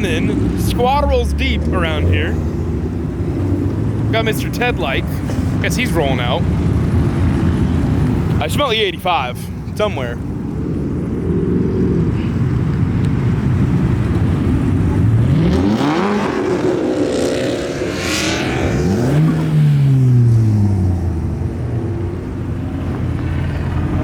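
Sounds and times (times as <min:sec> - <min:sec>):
car engine revving: 0:00.0 - 0:08.8, 0:09.8 - 0:24.0.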